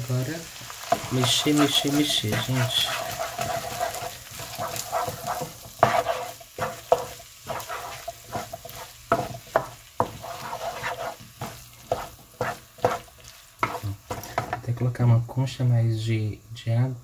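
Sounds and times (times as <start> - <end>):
food sizzling in a frying pan: 0.0 - 17.0
wooden spatula scraping a pan: 0.5 - 14.9.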